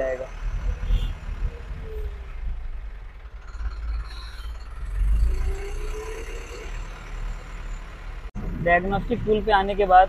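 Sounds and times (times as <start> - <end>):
diesel truck engine revving: 0.0 - 9.3.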